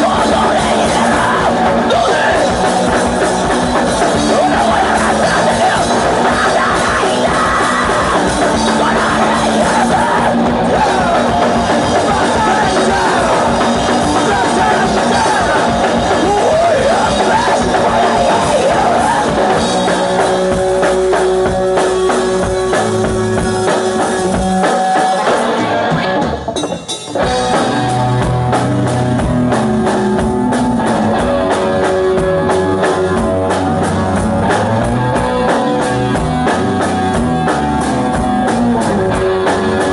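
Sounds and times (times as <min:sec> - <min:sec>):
guitars: 0:00.0 - 0:39.9
hardcore punk band playing live: 0:00.0 - 0:39.9
loud drums: 0:00.0 - 0:39.9
vocals: 0:00.0 - 0:39.9.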